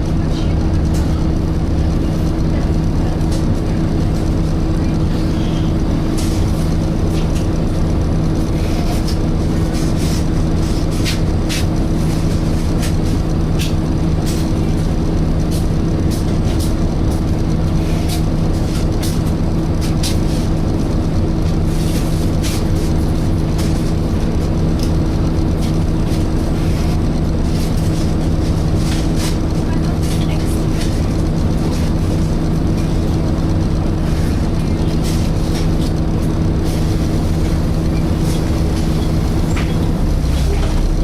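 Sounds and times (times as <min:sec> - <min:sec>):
bus engine rumble: 0:00.0 - 0:41.0
engine cooling fan drone: 0:00.0 - 0:41.0.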